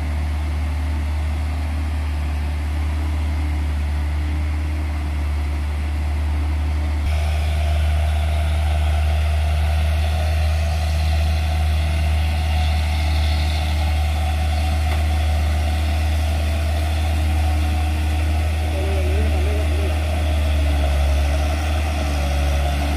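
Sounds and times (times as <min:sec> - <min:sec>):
truck diesel engine droning: 0:00.0 - 0:22.9.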